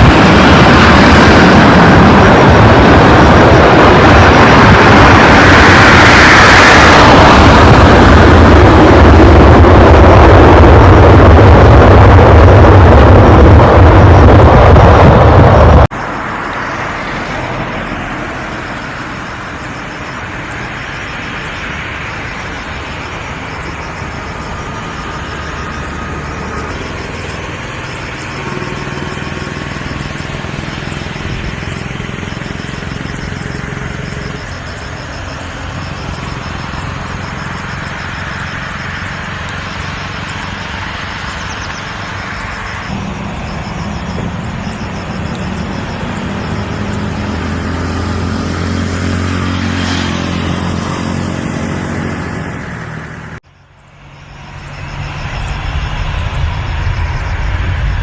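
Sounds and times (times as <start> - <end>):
loud engine roar: 0.0 - 58.0.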